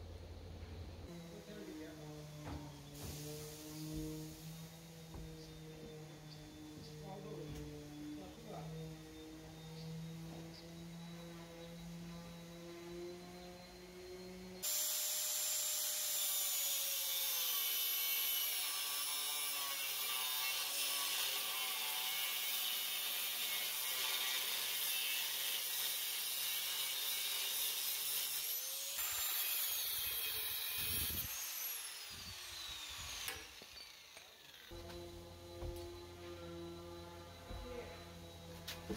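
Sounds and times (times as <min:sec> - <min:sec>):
angle grinder cutting steel: 0:01.1 - 0:38.9.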